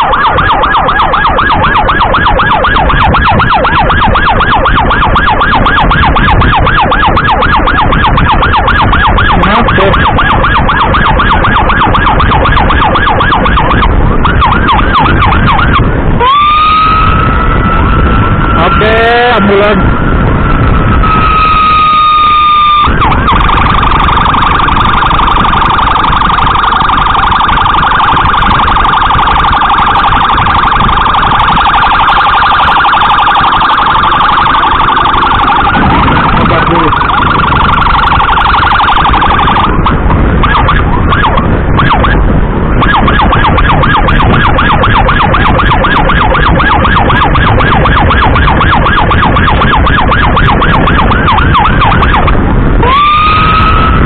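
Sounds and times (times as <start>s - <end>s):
emergency siren: 0.0s - 54.0s
motorcycle road and wind noise: 0.0s - 54.0s.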